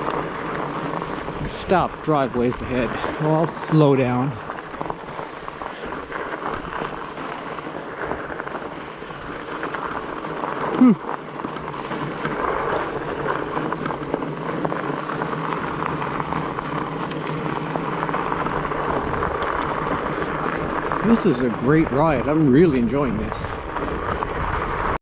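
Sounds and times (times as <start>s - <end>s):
bike tyres rolling on gravel: 0.0s - 25.0s.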